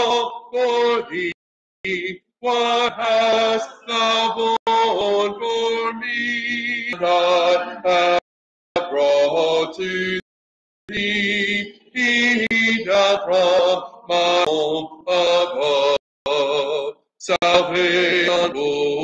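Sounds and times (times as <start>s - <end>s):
man singing a hymn: 0.0s - 8.2s, 8.8s - 10.2s, 10.9s - 19.0s.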